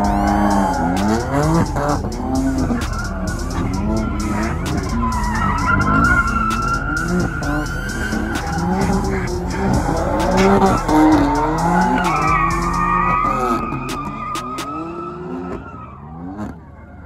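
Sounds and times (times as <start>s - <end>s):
tyres squealing: 0.0s - 16.0s
car engines revving: 0.0s - 17.0s.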